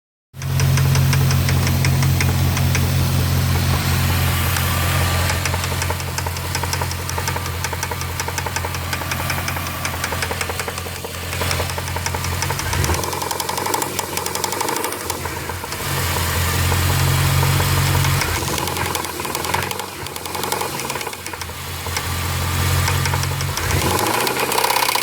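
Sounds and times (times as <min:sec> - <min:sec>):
engine idling: 0:00.4 - 0:25.0
rapid engine knock: 0:00.4 - 0:25.0.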